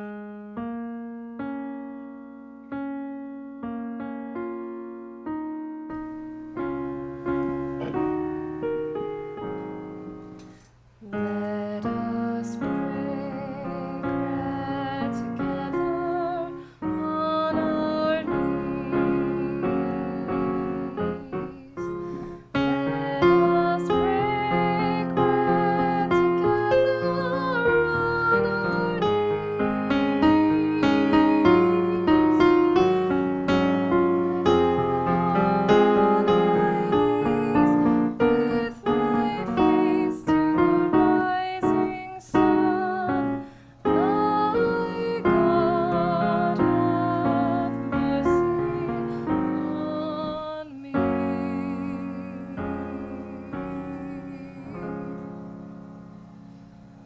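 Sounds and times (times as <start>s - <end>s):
piano playing hymn tune: 0.0s - 57.0s.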